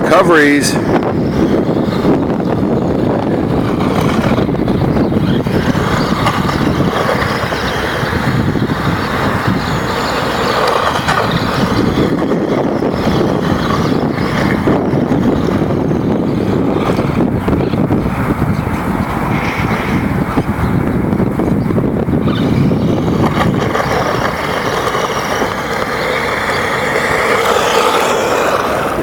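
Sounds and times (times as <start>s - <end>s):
small engine running roughly: 0.1s - 29.0s.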